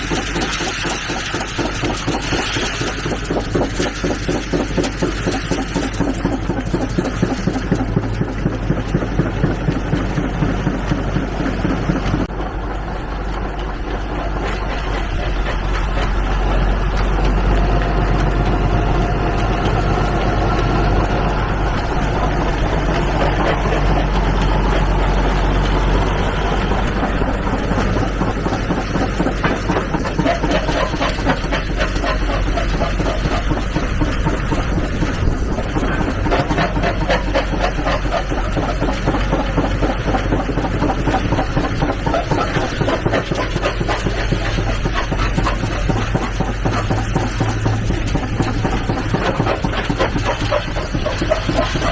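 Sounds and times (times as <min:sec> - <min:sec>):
rock crusher clattering: 0:00.0 - 0:51.9
tractor engine drone: 0:00.0 - 0:51.9.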